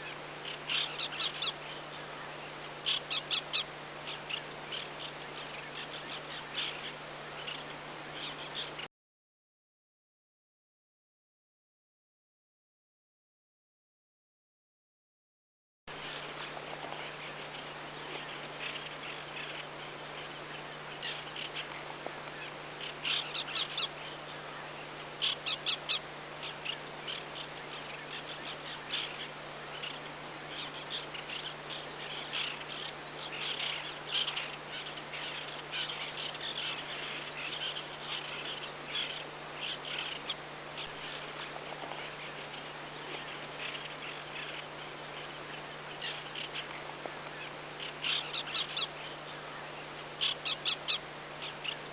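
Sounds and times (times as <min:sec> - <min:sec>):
terns calling: 0:00.0 - 0:08.9, 0:15.9 - 0:51.9.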